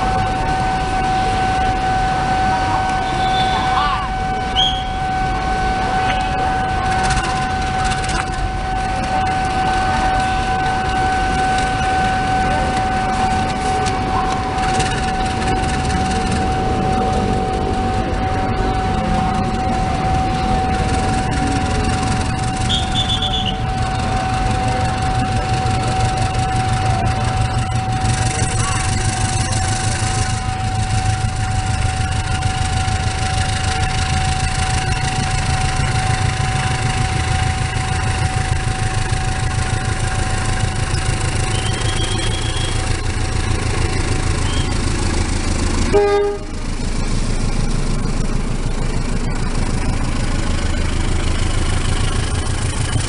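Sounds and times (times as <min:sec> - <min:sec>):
level crossing alarm tone: 0:00.0 - 0:48.0
diesel locomotive engine rumble: 0:00.0 - 0:53.0
street and crowd noise: 0:00.0 - 0:53.0.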